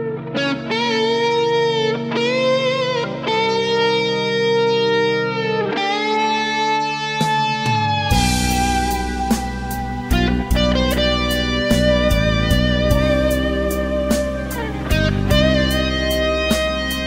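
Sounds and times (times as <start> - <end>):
electric guitar lead melody: 0.0 - 17.0
held backing chords: 0.0 - 17.0.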